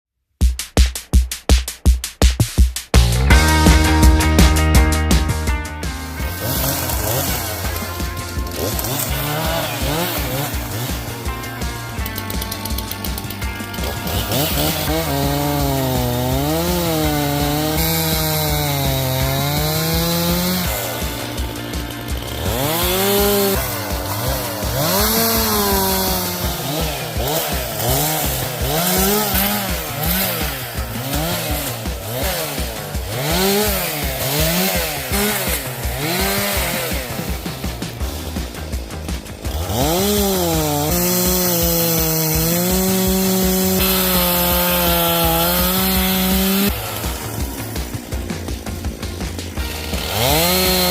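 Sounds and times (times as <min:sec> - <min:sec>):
chainsaw engine revving: 0:02.9 - 0:50.9.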